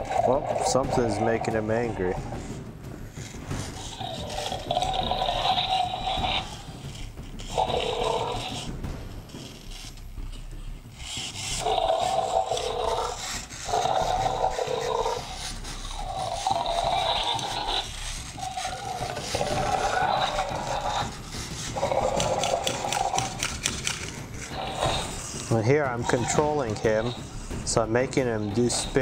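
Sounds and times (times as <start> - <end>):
toy dinosaur electronic roars: 0.0 - 2.5, 3.6 - 8.7, 11.0 - 29.0.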